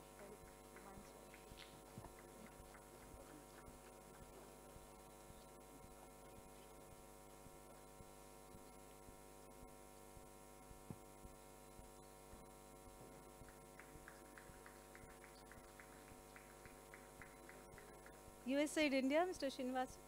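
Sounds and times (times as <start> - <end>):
faint regular ticking: 0.0 - 9.0, 12.4 - 19.8
faint electrical hum: 0.0 - 20.0.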